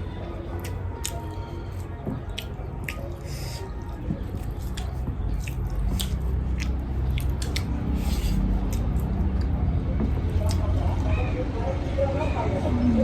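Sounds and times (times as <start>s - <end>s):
mouth chewing and smacking: 0.0s - 11.4s.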